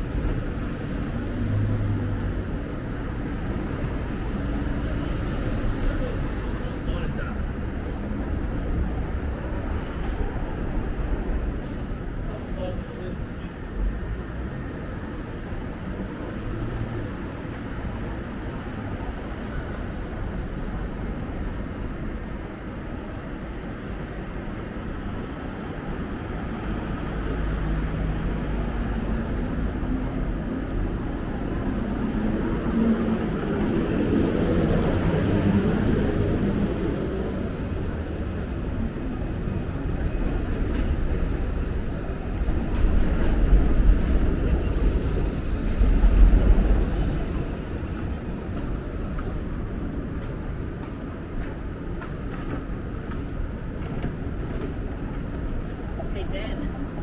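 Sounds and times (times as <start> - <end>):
passing traffic: 0.0 - 57.0.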